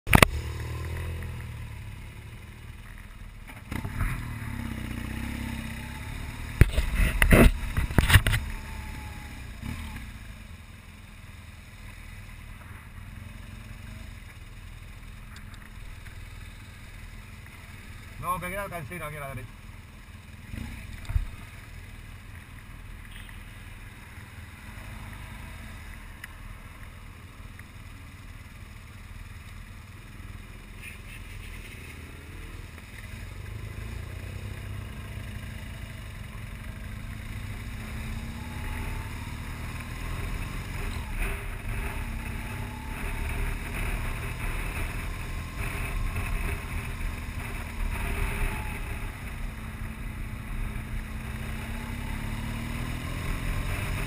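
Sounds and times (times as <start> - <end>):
motorcycle engine running: 0.1 - 54.0.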